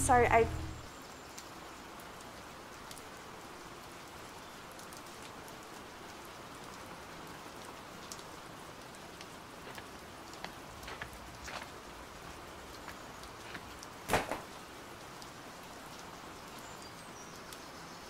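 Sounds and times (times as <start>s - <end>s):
light rain hissing: 0.0s - 18.0s.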